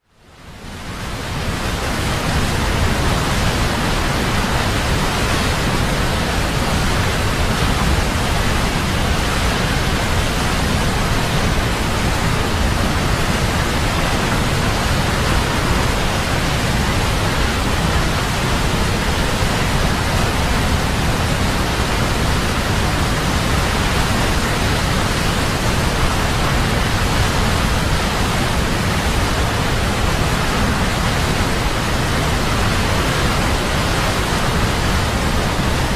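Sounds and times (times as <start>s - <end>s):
waterfall roaring: 0.2s - 35.9s.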